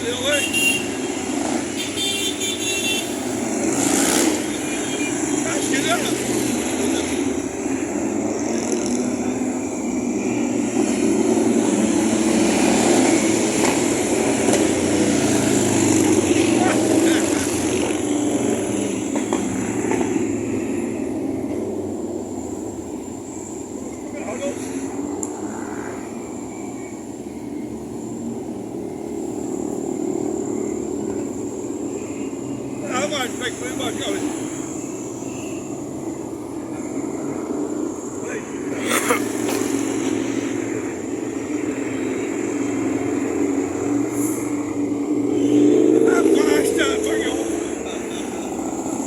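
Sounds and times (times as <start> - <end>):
motorcycles riding past: 0.0 - 49.0.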